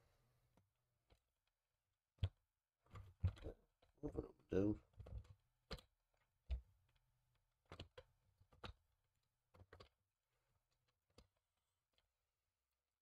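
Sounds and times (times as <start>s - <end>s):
small parts clicking and tapping: 0.5s - 4.1s, 4.8s - 12.8s.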